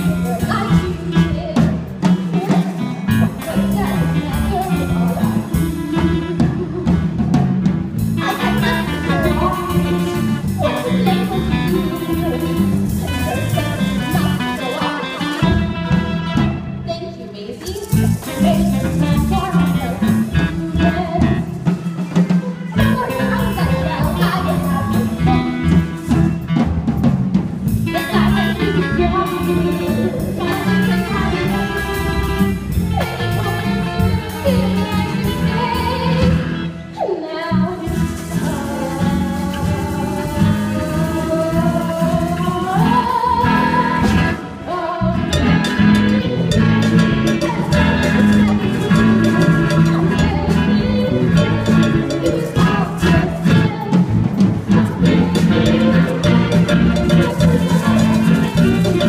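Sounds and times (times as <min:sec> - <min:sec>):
person singing: 0:00.0 - 0:07.3, 0:08.0 - 0:26.6, 0:27.8 - 0:59.0
drum kit: 0:00.0 - 0:16.9, 0:17.6 - 0:37.1, 0:37.7 - 0:59.0
band playing upbeat show tune: 0:00.0 - 0:59.0.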